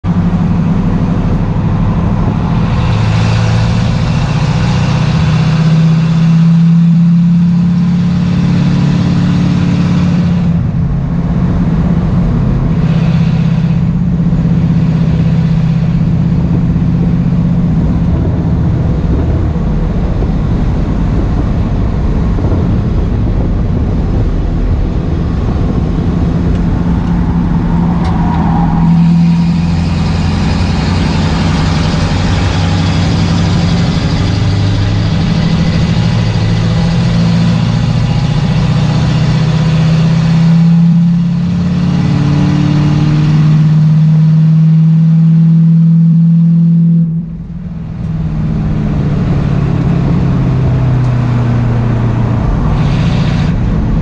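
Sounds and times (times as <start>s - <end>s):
race car engine running hard: 0.0s - 54.0s
wind and road noise: 0.0s - 54.0s.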